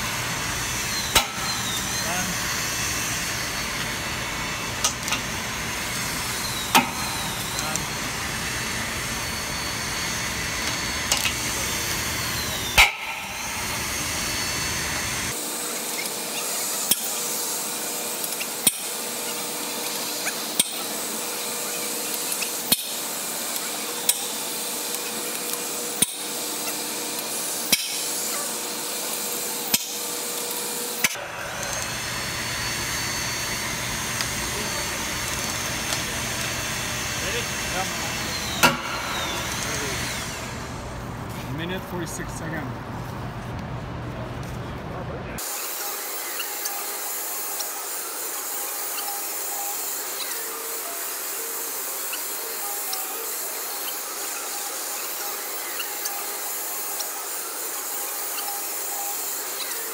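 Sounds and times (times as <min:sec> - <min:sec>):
hydraulic pump and tool noise: 0:00.0 - 0:43.5, 0:45.3 - 0:59.9.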